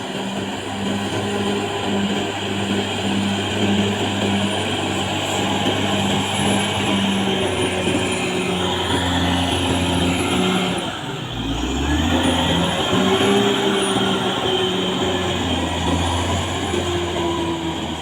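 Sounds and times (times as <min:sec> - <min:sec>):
bulldozer diesel engine: 0:00.0 - 0:18.0.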